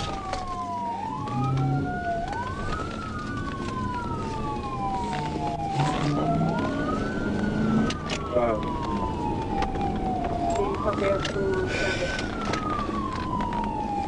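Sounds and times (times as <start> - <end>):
police siren wailing: 0.0 - 14.0.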